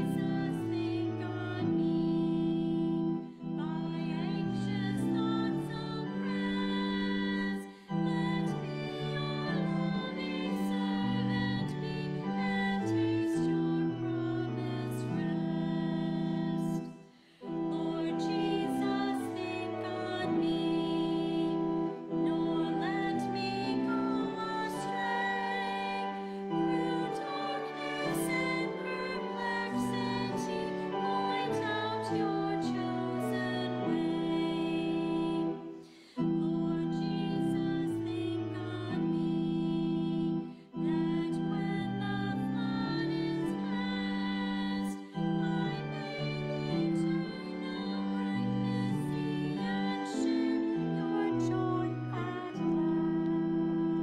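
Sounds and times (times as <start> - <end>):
hymn singing: 0.0 - 54.0
sustained keyboard chords: 0.0 - 54.0.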